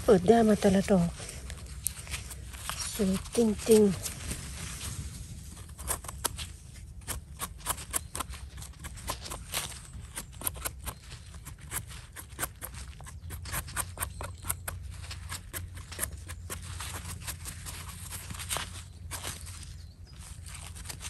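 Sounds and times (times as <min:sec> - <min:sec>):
knife scraping soil off mushroom: 0:00.2 - 0:19.8.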